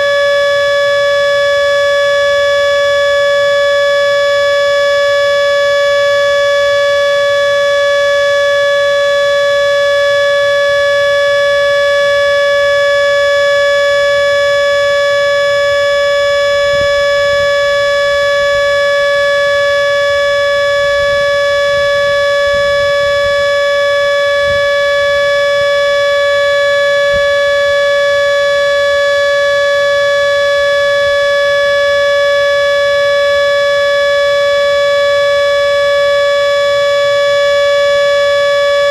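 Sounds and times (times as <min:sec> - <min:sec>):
siren steady tone: 0:00.0 - 0:38.9.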